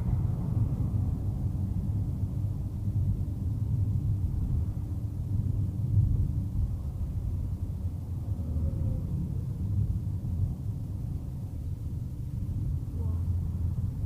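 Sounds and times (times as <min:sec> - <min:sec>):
vehicle interior rumble: 0:00.0 - 0:14.0.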